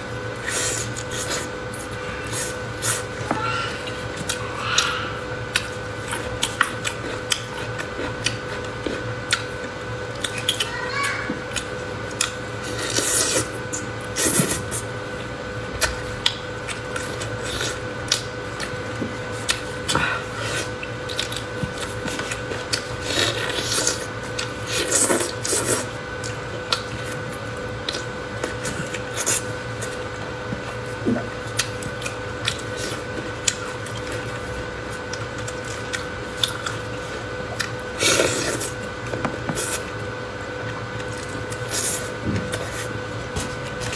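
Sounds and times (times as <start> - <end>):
chewing: 0.4 - 15.2, 15.8 - 40.0.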